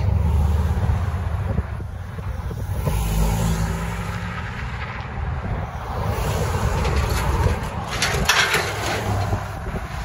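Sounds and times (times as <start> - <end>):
cars crossing a railroad crossing: 0.0 - 10.0
wind rumbling on microphone: 0.0 - 10.0.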